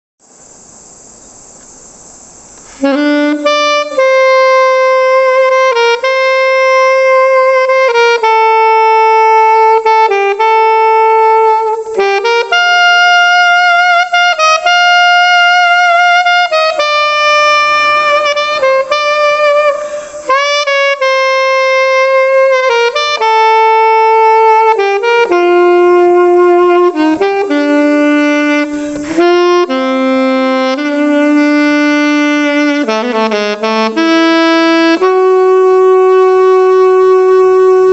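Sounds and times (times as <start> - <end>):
alto saxophone melody: 2.3 - 37.9.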